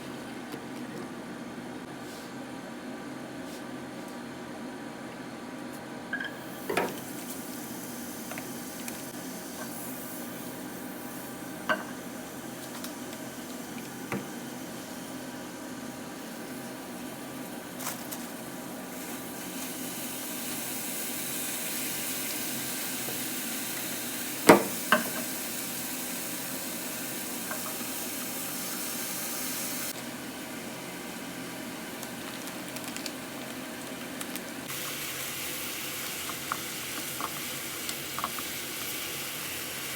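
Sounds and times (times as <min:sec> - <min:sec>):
food sizzling in a pan: 0:06.2 - 0:39.9.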